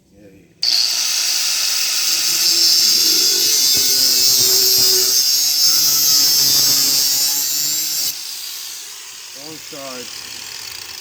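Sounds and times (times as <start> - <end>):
cut-off wheel cutting steel: 0.6 - 11.0.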